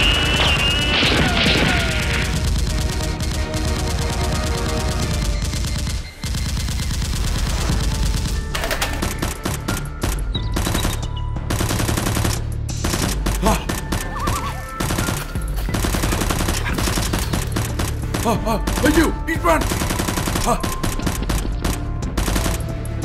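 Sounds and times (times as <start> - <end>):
gunfire sound effects: 0.0 - 8.4, 11.6 - 22.7.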